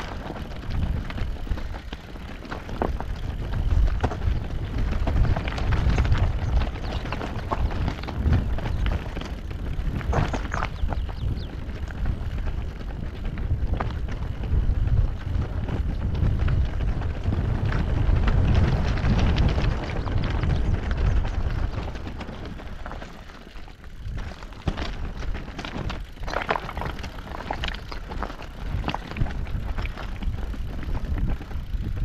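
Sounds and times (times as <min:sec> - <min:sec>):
bike clicks and rattles: 0:00.0 - 0:32.0
bike tyre noise: 0:00.0 - 0:32.0
wind buffeting microphone: 0:00.0 - 0:32.0.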